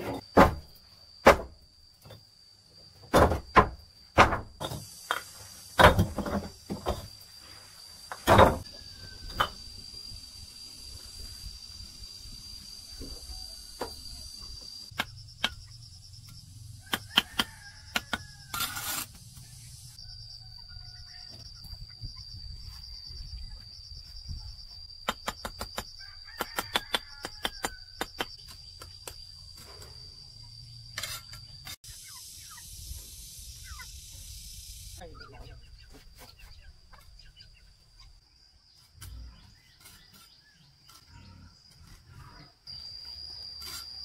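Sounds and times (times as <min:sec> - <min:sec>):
high-pitched insect trill: 0:00.1 - 0:44.0.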